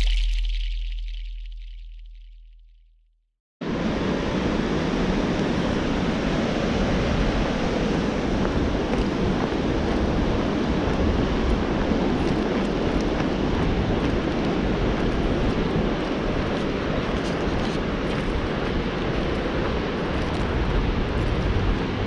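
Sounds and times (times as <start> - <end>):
rushing river water: 3.6 - 22.0.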